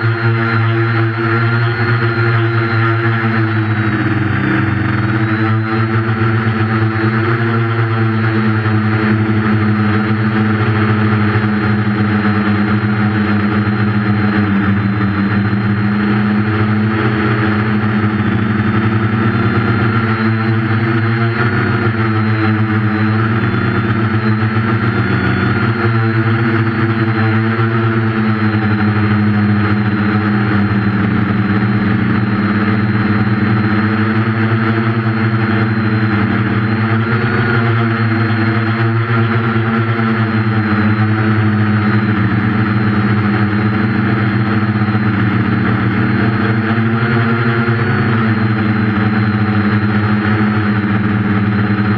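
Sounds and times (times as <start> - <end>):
quadcopter motors whirring: 0.0 - 51.9.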